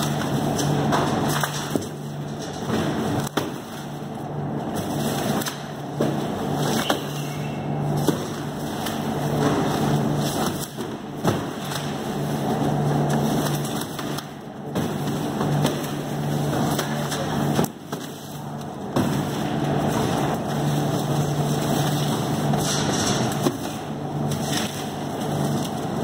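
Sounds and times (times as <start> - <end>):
evaporator fans humming: 0.0 - 26.0.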